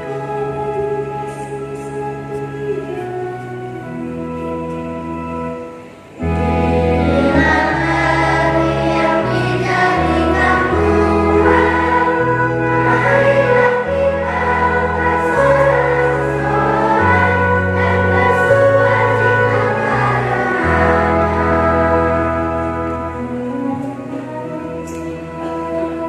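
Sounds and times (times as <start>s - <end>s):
children's choir singing: 0.0s - 26.0s
keyboard bass notes: 0.0s - 26.0s.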